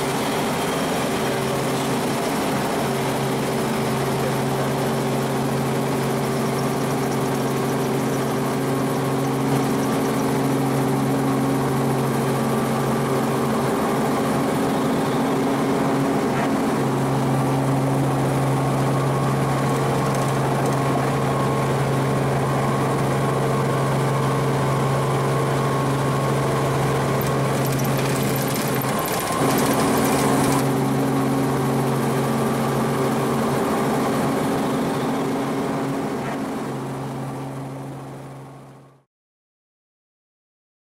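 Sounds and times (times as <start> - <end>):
helicopter engine and rotor: 0.0 - 39.1.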